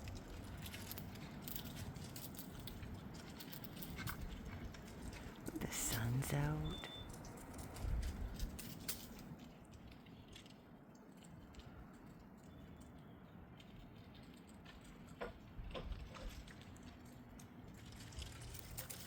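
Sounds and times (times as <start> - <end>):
squirrels gnawing and cracking nuts: 0.0 - 19.0.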